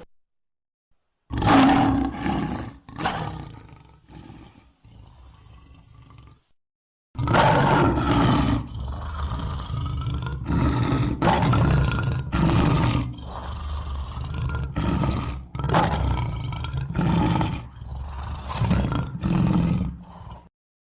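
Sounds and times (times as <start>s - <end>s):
cartoon lion roaring: 1.3s - 6.6s, 7.2s - 20.5s.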